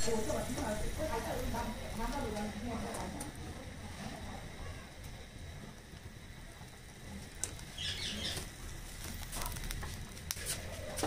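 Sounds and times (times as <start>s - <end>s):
oil crackling in a pan: 0.0s - 11.0s.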